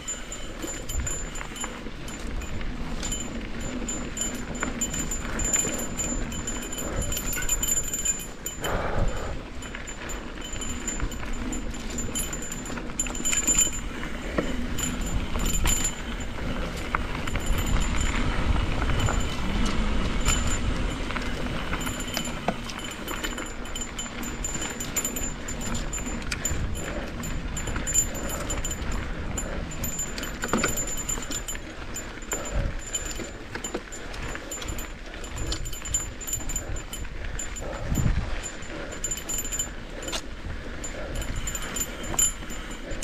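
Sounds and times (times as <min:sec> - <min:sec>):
bike rattles and clicks: 0:00.0 - 0:43.0.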